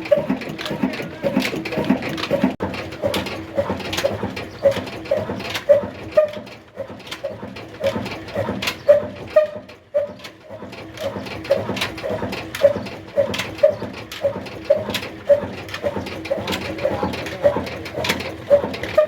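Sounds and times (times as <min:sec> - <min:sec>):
stationary diesel engine running: 0:00.0 - 0:19.0.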